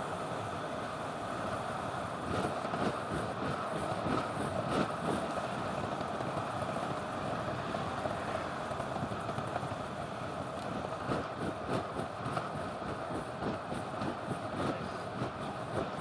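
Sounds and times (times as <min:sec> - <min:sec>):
bike tyres on asphalt: 0:00.1 - 0:16.0
wind rushing over microphone: 0:01.8 - 0:16.0.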